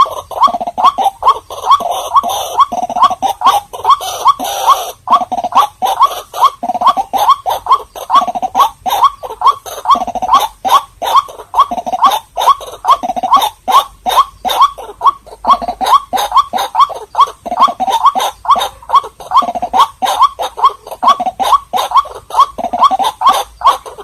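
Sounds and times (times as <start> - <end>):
waterhen croaking calls: 0.0 - 24.0.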